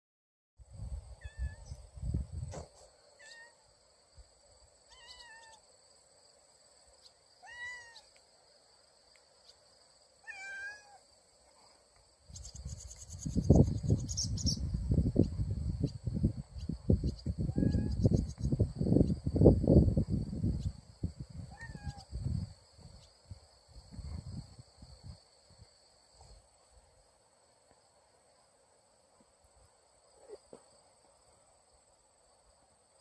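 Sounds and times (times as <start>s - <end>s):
insect chirring: 0.8s - 28.6s.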